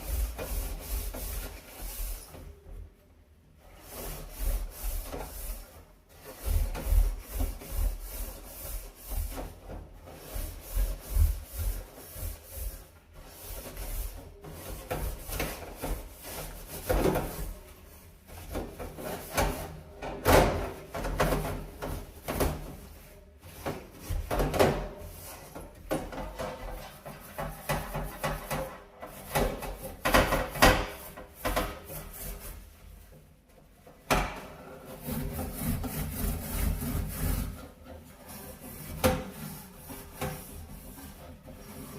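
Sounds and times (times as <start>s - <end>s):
scrubbing a stove surface: 0.0s - 41.9s.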